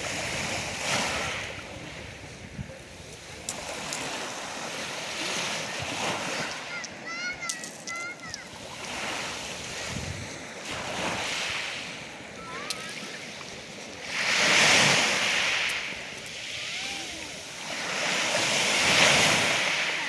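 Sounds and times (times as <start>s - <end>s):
sea waves washing ashore: 0.0s - 20.0s.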